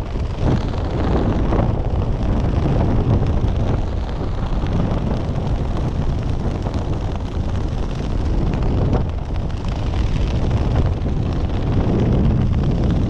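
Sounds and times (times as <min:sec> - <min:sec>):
heavy wind buffeting microphone: 0:00.0 - 0:13.0.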